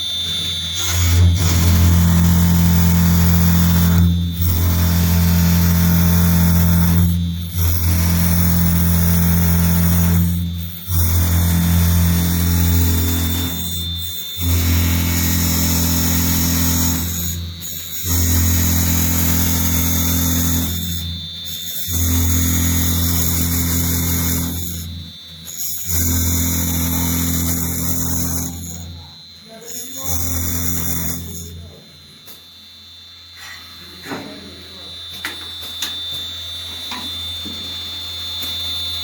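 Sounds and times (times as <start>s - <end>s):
drilling machine motor whining: 0.0s - 39.0s.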